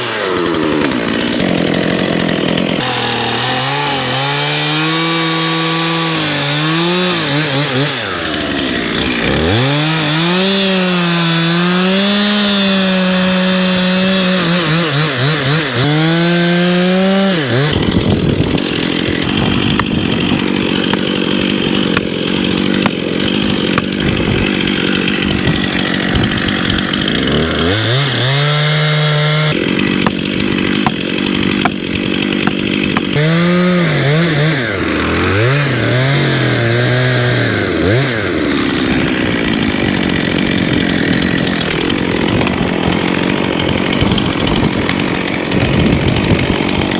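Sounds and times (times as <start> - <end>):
chainsaw revving and cutting timber: 0.0 - 46.9.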